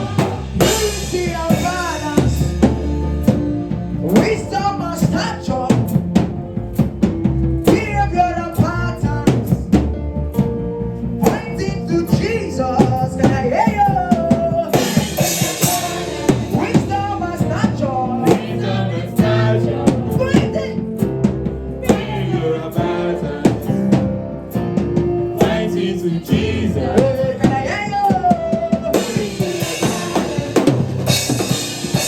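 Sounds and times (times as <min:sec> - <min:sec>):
worship song with voices singing: 0:00.0 - 0:07.0, 0:07.6 - 0:09.8, 0:11.2 - 0:32.0
drum kit kick and snare: 0:00.0 - 0:32.0.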